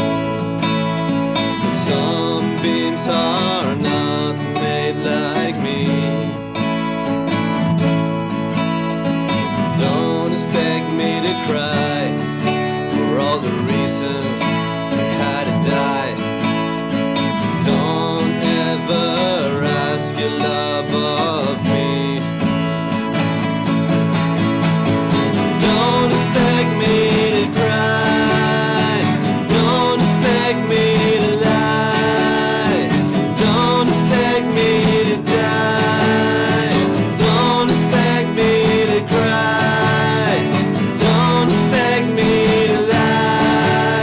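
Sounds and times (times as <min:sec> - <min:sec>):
nylon-string guitar: 0:00.0 - 0:44.0
steel-string guitar: 0:00.0 - 0:44.0.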